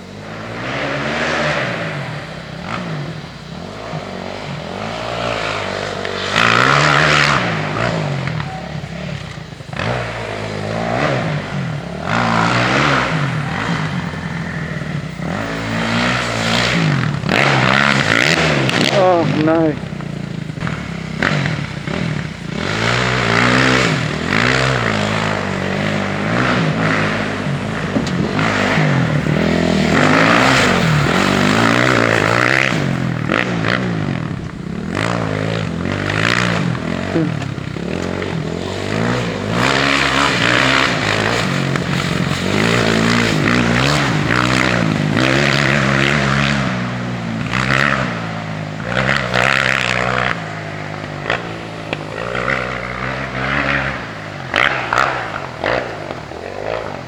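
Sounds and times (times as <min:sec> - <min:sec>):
dirt bike engine revving: 0:00.0 - 0:57.0
steady rushing noise: 0:00.0 - 0:57.0.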